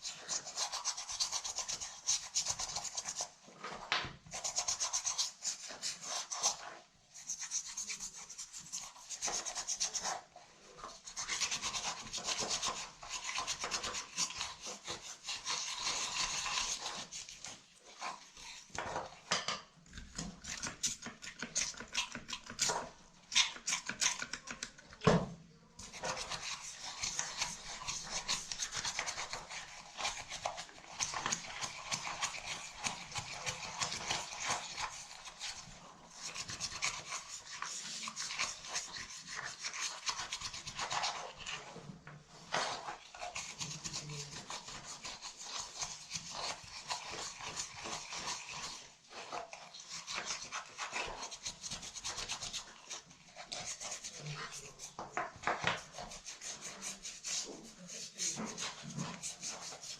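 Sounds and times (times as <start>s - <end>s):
scrubbing strokes: 0.0s - 19.3s, 25.8s - 59.9s.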